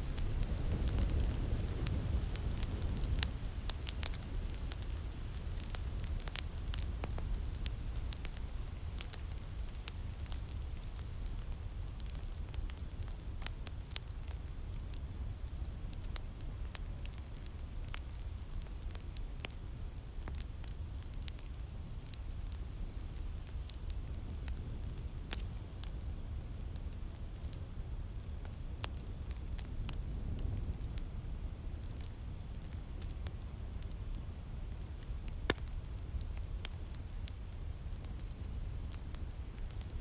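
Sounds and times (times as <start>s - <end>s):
low rumble of wind: 0.0s - 40.0s
wood fire crackling and popping: 0.0s - 40.0s.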